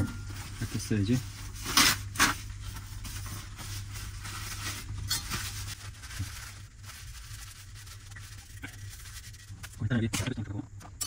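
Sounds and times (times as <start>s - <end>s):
paper towel rustling and crinkling: 0.0s - 9.9s
low steady hum: 0.0s - 11.0s.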